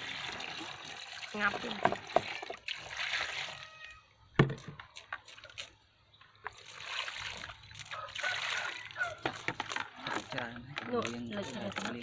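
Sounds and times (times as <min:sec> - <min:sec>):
water splashing into plastic tub: 0:00.0 - 0:05.8, 0:06.4 - 0:12.0.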